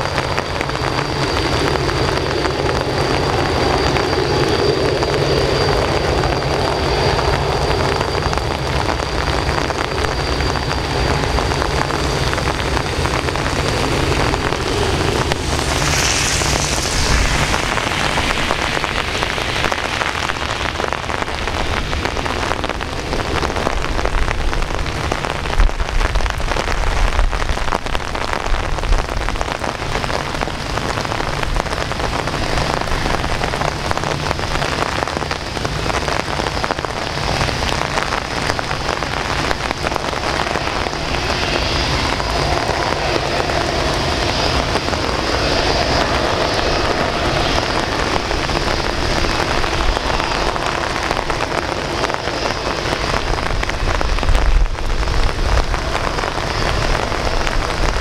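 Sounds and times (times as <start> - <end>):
high steady whine: 0.0 - 58.0
jet airliner taxiing: 0.0 - 58.0
steady rain: 0.0 - 58.0.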